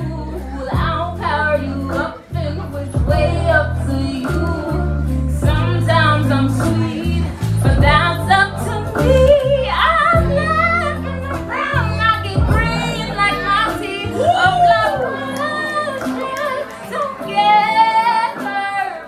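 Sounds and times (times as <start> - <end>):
backing track with deep bass: 0.0 - 19.0
woman singing: 0.0 - 19.0.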